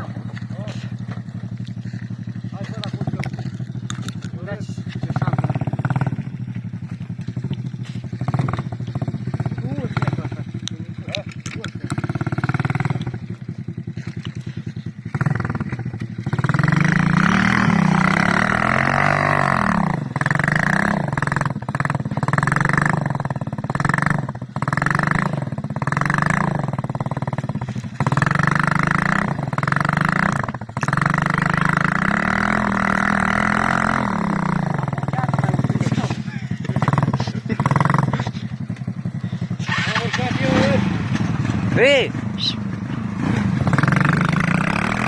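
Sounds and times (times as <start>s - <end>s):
off-road vehicle engine revving: 0.0s - 45.0s.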